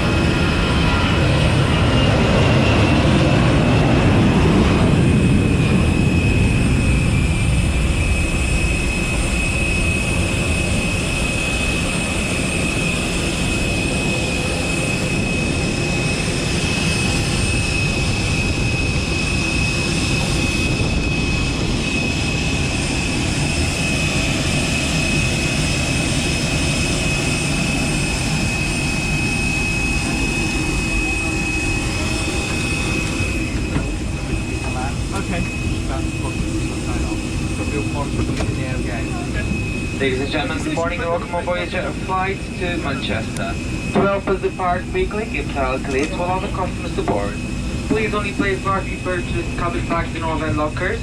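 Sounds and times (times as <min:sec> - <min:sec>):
parked airliner rushing noise: 0:00.0 - 0:51.0.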